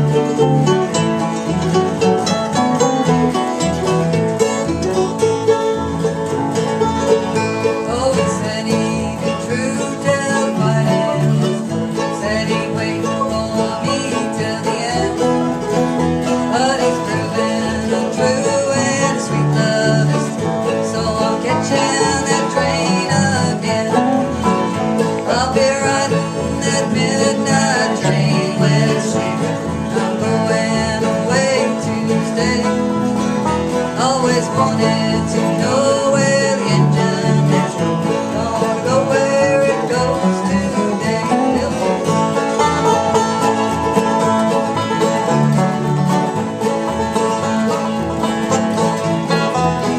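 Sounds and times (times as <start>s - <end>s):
acoustic guitar picking: 0.0s - 49.9s
banjo picking: 0.0s - 49.9s.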